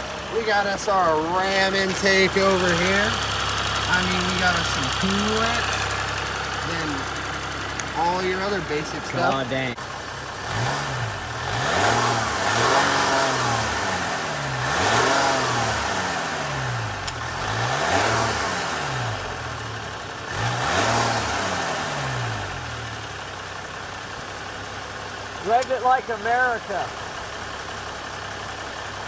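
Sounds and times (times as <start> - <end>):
diesel engine revving and idling: 0.0 - 29.0.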